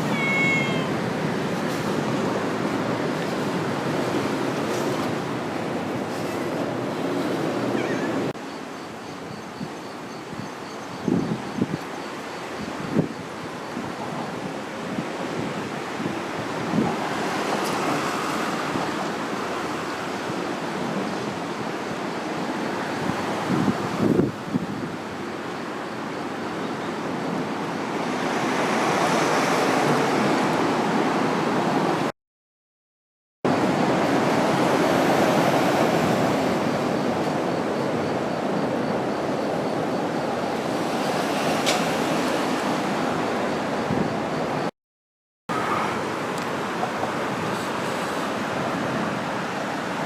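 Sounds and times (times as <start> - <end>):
river water rushing: 0.0 - 9.3, 11.9 - 32.1, 33.5 - 44.7, 45.5 - 50.0.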